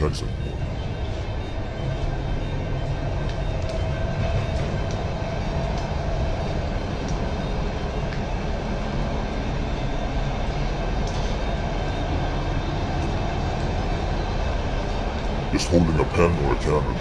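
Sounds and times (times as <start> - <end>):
faint steady whine: 0.0 - 17.0
subway train wheels rumbling: 0.0 - 17.0.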